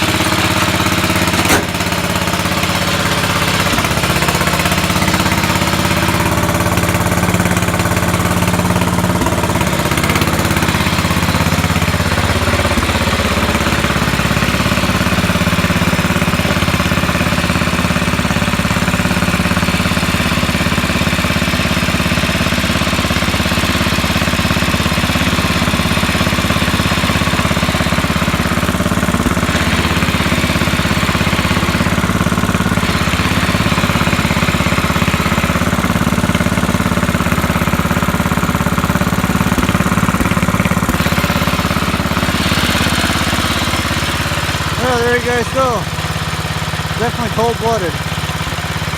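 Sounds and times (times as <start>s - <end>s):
garden tractor engine idling: 0.0s - 48.9s.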